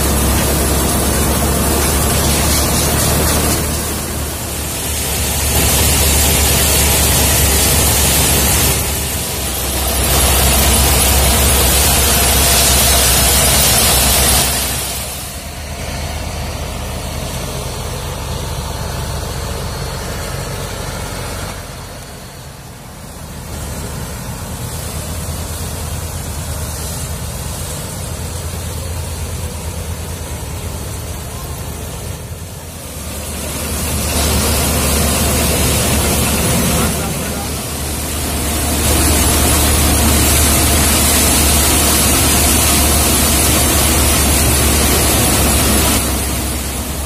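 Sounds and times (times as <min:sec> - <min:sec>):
thresher rushing noise: 0:00.0 - 0:47.0
tractor diesel engine drone: 0:00.0 - 0:47.0.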